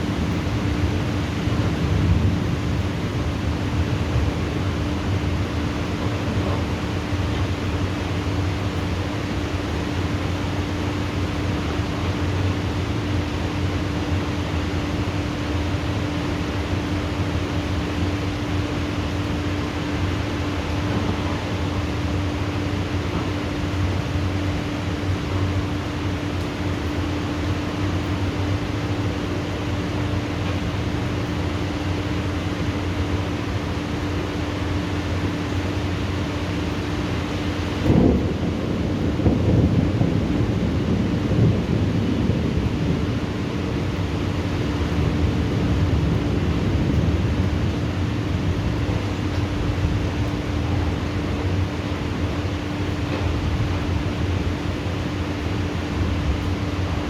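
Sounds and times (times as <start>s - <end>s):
low mechanical hum: 0.0s - 57.0s
steady rain hiss: 0.0s - 57.0s.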